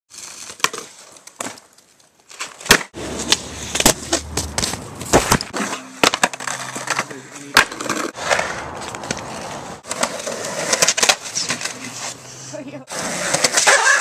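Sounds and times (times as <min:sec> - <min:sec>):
skateboard wheels rolling: 0:00.1 - 0:14.0.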